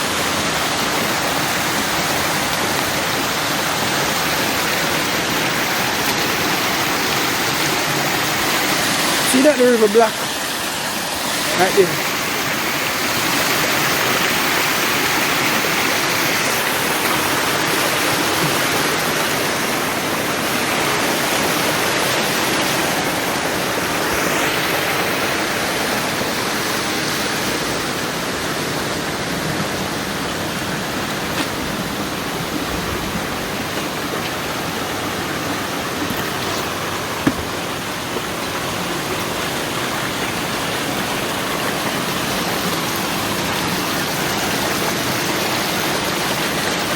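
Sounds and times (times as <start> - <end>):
river water over rocks: 0.0 - 46.9.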